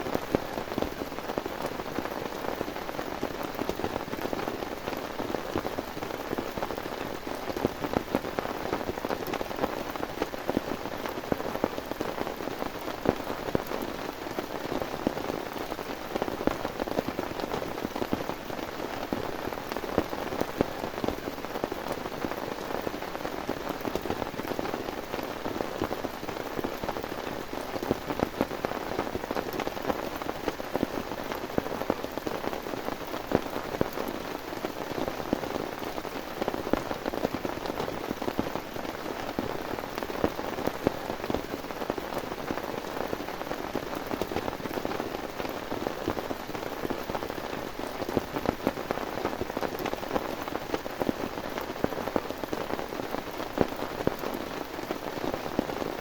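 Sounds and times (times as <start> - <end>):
heavy rain: 0.0 - 56.0
raindrops hitting a surface: 0.0 - 56.0.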